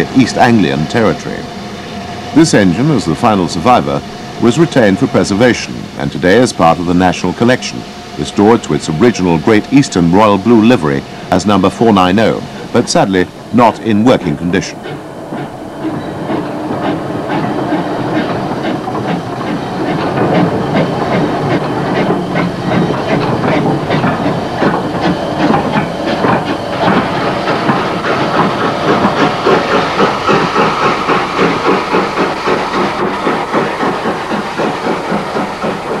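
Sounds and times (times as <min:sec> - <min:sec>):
steam hissing: 0:00.0 - 0:36.0
steam locomotive exhaust chuffing: 0:00.0 - 0:36.0.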